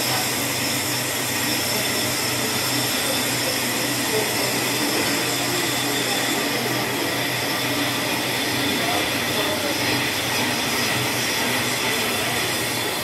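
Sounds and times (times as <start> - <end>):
lathes and machine motors running: 0.0 - 13.0.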